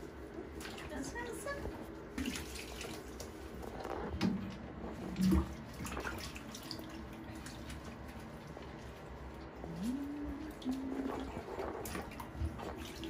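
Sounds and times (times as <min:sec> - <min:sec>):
bath water splashing and dripping: 0:00.0 - 0:13.0.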